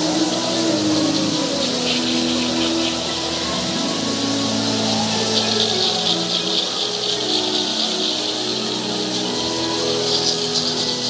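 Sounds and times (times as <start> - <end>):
crowd noise: 0.0 - 11.0
steady musical tones: 0.0 - 11.0.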